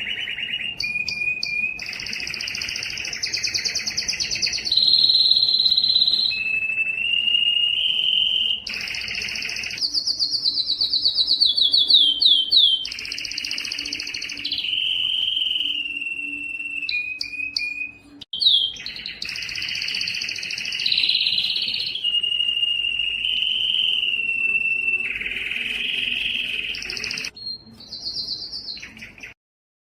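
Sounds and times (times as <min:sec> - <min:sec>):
canary singing trills: 0:00.0 - 0:29.4.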